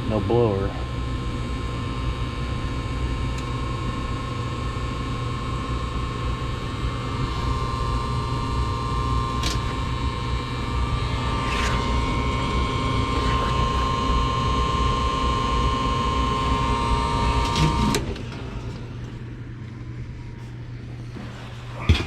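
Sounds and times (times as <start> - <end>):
gas burners rushing hum: 0.0 - 22.0.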